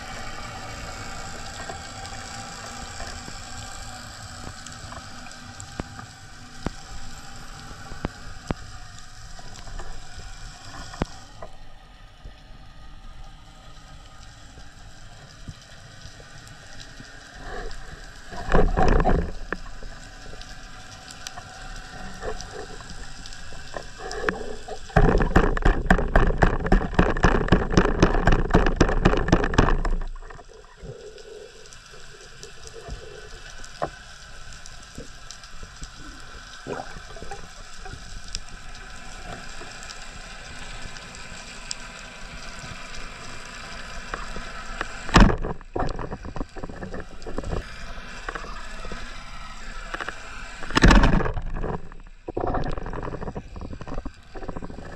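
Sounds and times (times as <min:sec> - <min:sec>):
dull underwater background: 0:00.0 - 0:54.9
rapid underwater crackling: 0:00.0 - 0:54.9.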